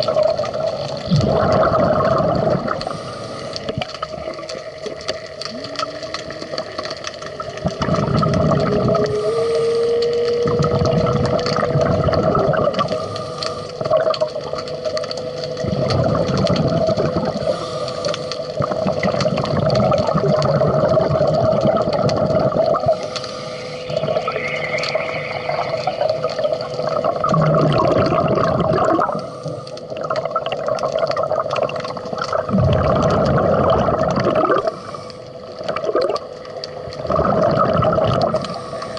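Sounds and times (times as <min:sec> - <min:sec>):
scuba exhaust bubbles gurgling: 0:00.0 - 0:38.9
steady underwater hum: 0:00.0 - 0:38.9.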